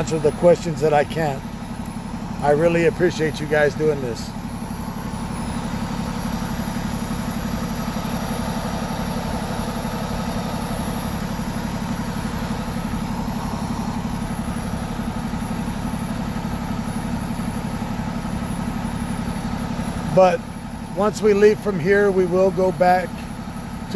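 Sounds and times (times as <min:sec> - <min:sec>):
vehicle engine idling: 0:00.0 - 0:23.9.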